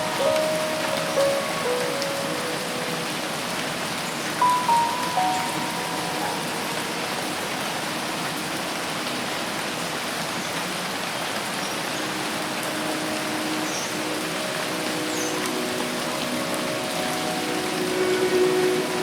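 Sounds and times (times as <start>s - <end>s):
rain falling in forest: 0.0s - 19.0s.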